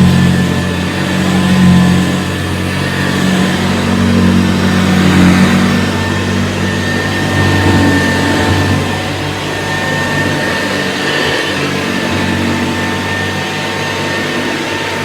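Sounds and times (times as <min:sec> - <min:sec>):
faint high whine: 0:00.0 - 0:15.0
upright vacuum motor humming: 0:00.0 - 0:15.0.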